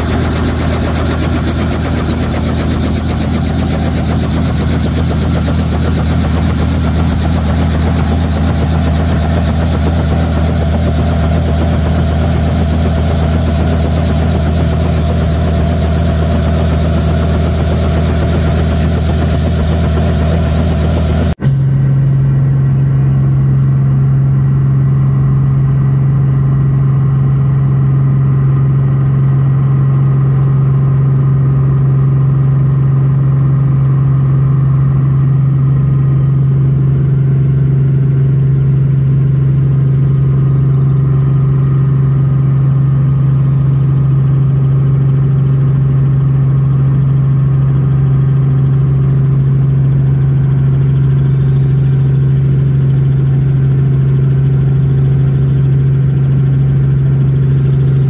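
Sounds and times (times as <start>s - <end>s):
helicopter drone inside cabin: 0.0s - 58.0s
helicopter engine and rotor: 0.0s - 58.0s.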